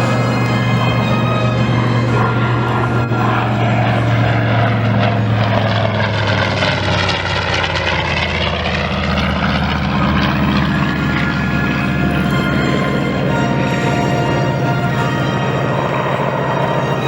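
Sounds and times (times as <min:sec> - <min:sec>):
propeller plane engine passing by: 0:00.0 - 0:17.0.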